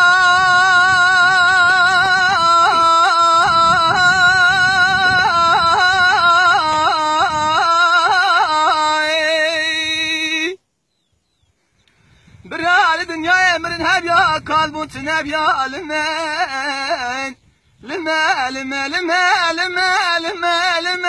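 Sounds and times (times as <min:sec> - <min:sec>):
man singing unaccompanied: 0:00.0 - 0:10.6, 0:12.4 - 0:21.0.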